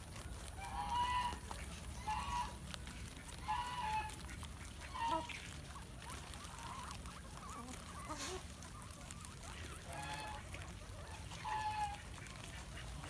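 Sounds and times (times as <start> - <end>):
guinea pigs squealing: 0.0 - 13.0.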